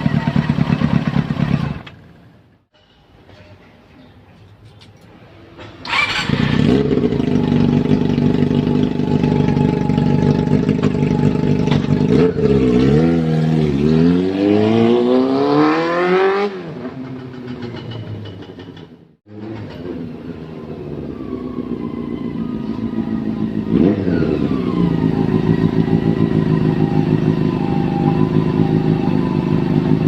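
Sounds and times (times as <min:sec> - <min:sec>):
motorcycle engine revving and idling: 0:00.0 - 0:02.3, 0:05.9 - 0:30.0.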